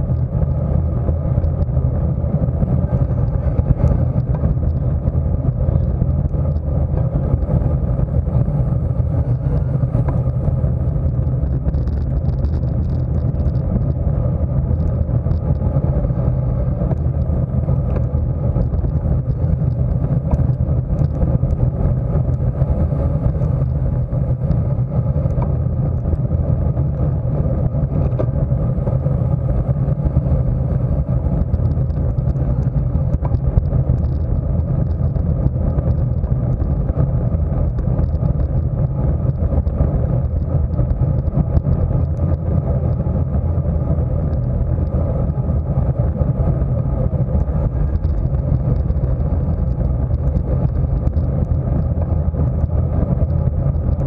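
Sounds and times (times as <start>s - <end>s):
tyre noise on asphalt: 0.0s - 54.0s
wind rushing over microphone: 0.0s - 54.0s.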